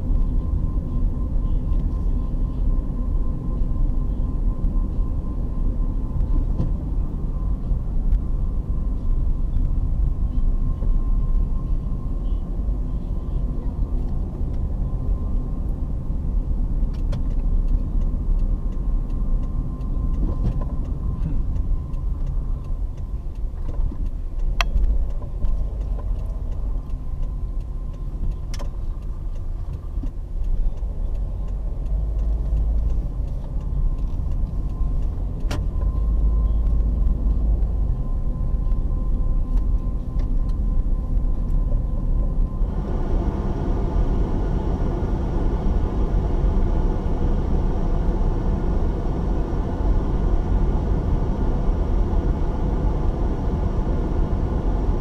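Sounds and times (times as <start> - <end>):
engine and tyre rumble: 0.0 - 55.0
thin steady whine: 0.0 - 55.0.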